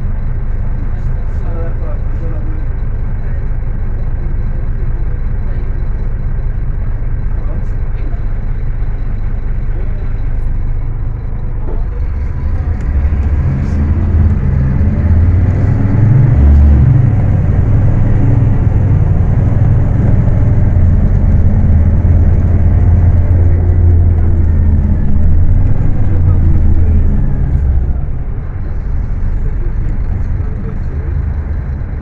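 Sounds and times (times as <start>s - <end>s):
bus diesel engine under load: 0.0s - 32.0s.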